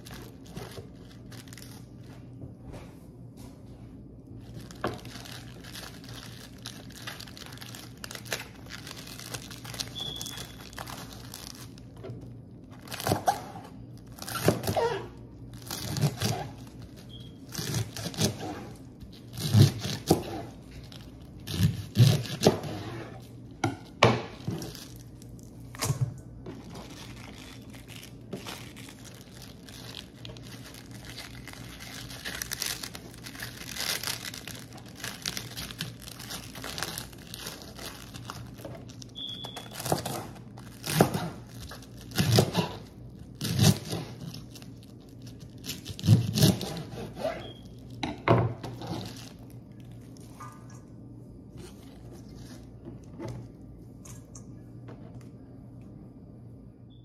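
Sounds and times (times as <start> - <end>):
crinkling and tearing: 0.0 - 2.1, 4.3 - 23.4, 24.3 - 48.0, 48.6 - 50.4.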